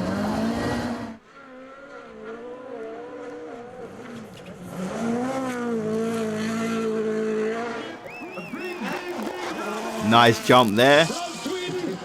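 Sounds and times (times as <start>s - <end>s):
rally car engine revving: 0.0s - 11.5s.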